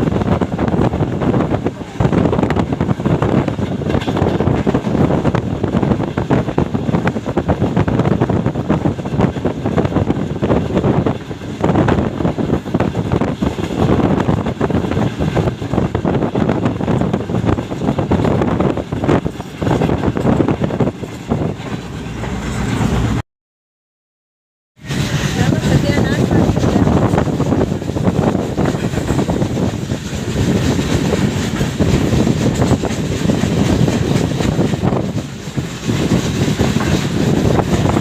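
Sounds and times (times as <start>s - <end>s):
train rumble and wheel clatter: 0.0s - 23.2s, 24.8s - 38.0s
wind buffeting microphone: 0.0s - 23.2s, 24.8s - 38.0s.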